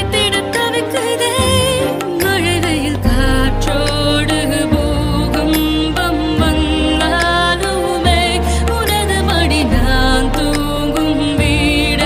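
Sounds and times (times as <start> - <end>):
steady bass: 0.0 - 0.7, 1.3 - 12.0
film song melody with vibrato: 0.0 - 12.0.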